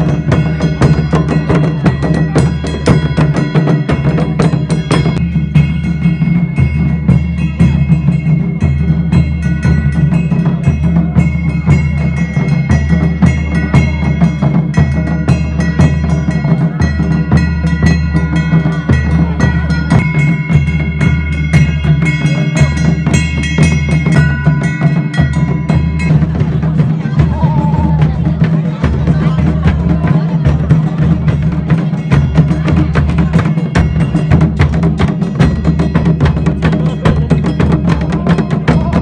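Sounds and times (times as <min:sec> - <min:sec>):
barrel drums beating fast: 0:00.0 - 0:39.0
ringing brass cymbals: 0:00.0 - 0:39.0.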